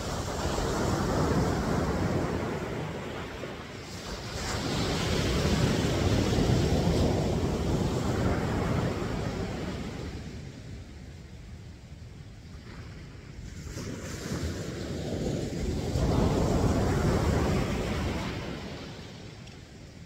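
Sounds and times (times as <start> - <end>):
ocean surf breaking: 0.0 - 10.5, 13.4 - 19.5
wind rumble on microphone: 0.0 - 20.0.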